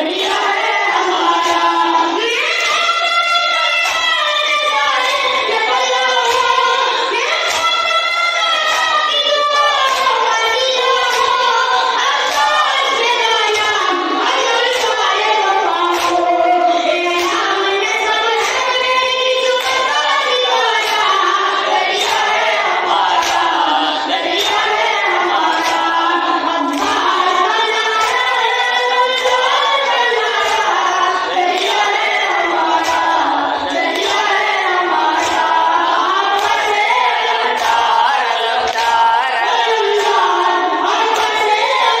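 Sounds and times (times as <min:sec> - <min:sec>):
boy chanting into a microphone: 0:00.0 - 0:42.0.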